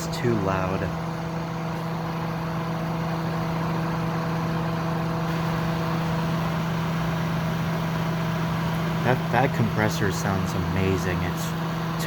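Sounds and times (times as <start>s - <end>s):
compressor humming: 0.0s - 12.0s
fan rushing: 0.0s - 12.0s.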